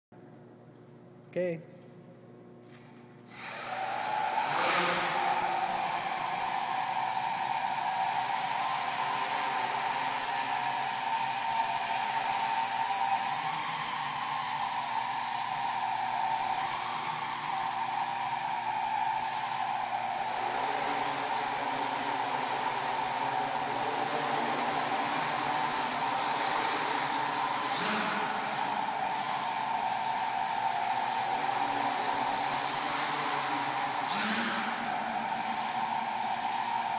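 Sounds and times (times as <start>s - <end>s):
high motor whine: 2.6s - 36.9s
drone propellers spinning: 2.7s - 36.9s.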